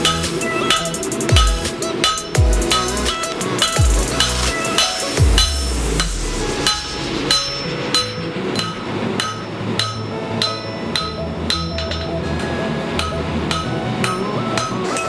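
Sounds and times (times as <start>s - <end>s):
hammer striking metal on anvil: 0.0s - 15.0s.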